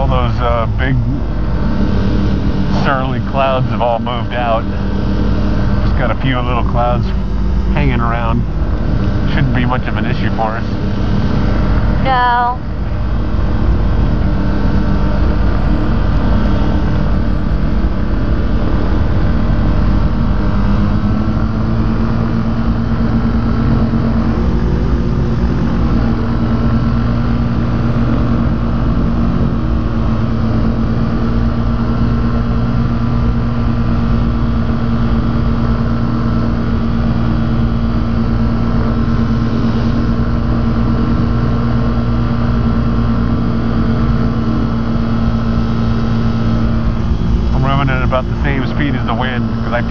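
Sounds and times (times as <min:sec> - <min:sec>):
ultralight aircraft engine running: 0:00.0 - 0:49.9.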